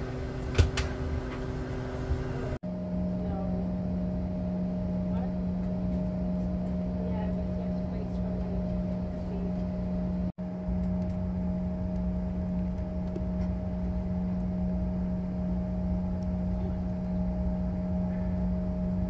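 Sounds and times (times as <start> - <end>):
jet cabin drone: 0.0 - 19.0.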